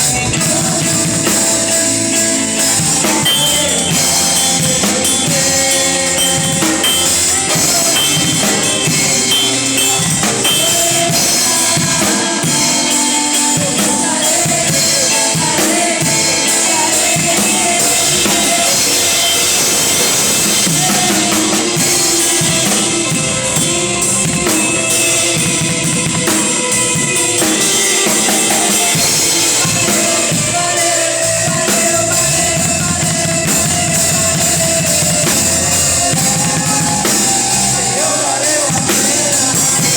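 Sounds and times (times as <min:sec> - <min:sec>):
band music: 0:00.0 - 0:39.9
bass drum and rimshots: 0:00.0 - 0:39.9.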